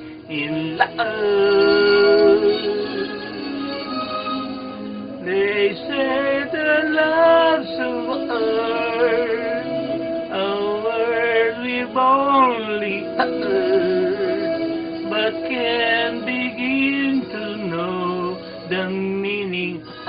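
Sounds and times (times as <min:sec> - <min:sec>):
man singing a ballad: 0:00.0 - 0:03.5, 0:05.2 - 0:20.0
musical accompaniment: 0:00.0 - 0:20.0.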